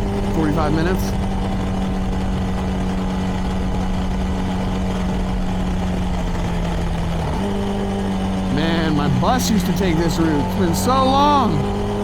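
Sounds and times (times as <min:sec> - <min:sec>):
motorcycle engine cruising: 0:00.0 - 0:12.0
road and wind rumble: 0:00.0 - 0:12.0.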